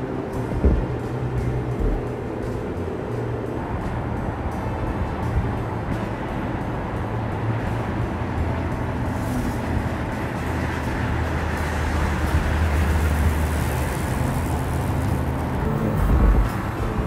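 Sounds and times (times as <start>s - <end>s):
car engine drone: 0.0s - 17.0s
tyre and road noise: 0.0s - 17.0s.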